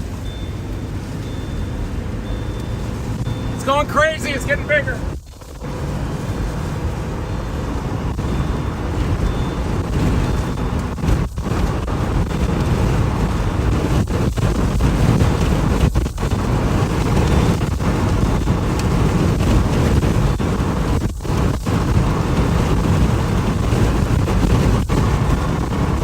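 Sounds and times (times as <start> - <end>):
wind buffeting microphone: 4.4 - 26.0.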